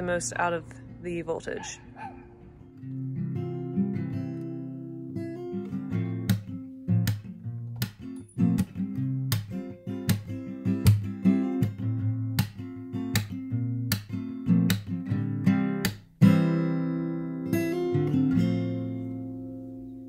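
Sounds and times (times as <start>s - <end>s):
strummed acoustic guitar: 2.1s - 20.0s.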